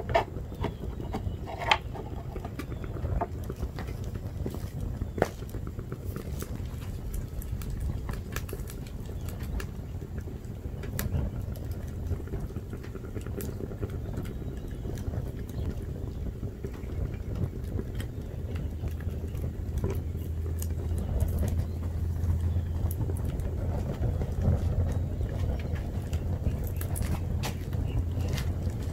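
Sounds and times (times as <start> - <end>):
fire crackling and popping: 0.0 - 28.9
low rumble: 0.0 - 28.9.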